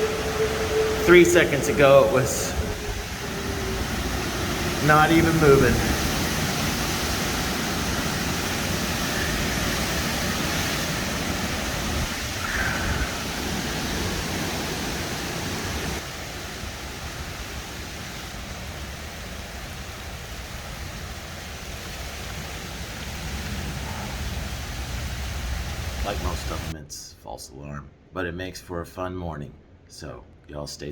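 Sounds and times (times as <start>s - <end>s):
low thunder rumble: 0.0s - 26.8s
wind and rain rushing: 0.0s - 26.8s.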